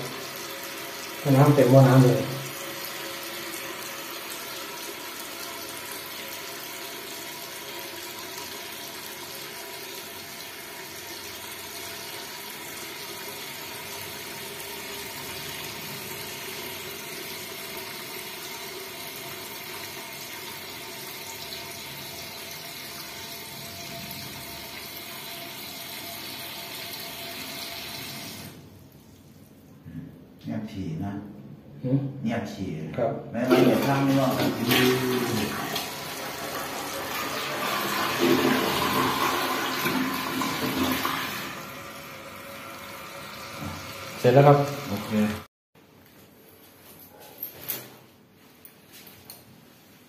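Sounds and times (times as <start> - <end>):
toilet cistern refilling: 0.0 - 29.4, 33.4 - 45.5.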